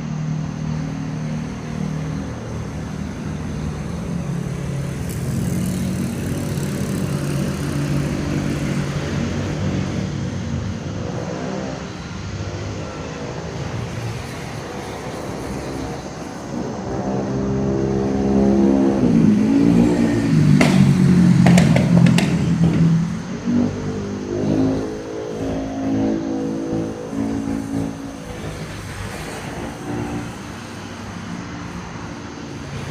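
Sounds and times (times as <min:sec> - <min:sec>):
vehicle engine revving: 0:03.2 - 0:30.6.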